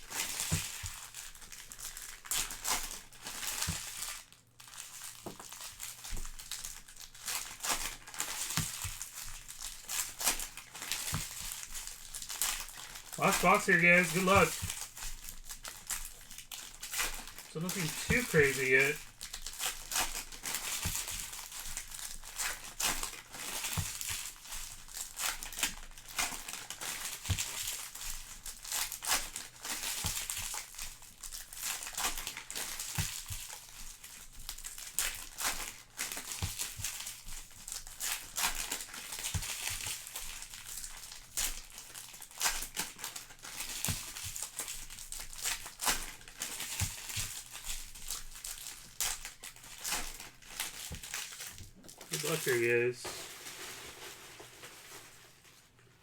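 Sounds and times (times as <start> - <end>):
wrappers crinkling and tearing: 0.0 - 56.0.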